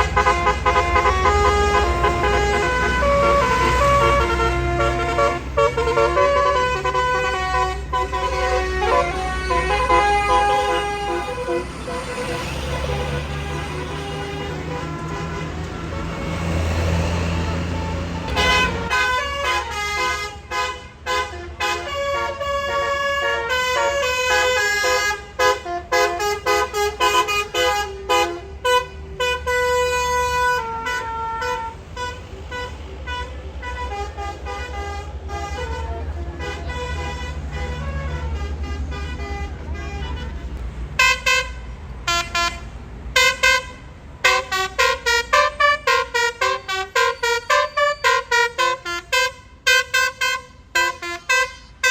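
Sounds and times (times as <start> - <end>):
bus engine running: 0.0 - 51.3
musical air horn toots: 0.0 - 51.9.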